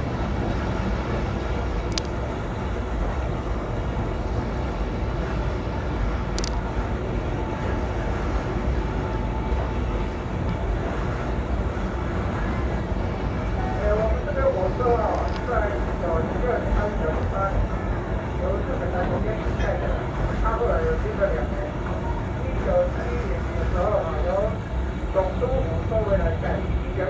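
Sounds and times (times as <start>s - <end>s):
train rolling along: 0.0s - 27.0s.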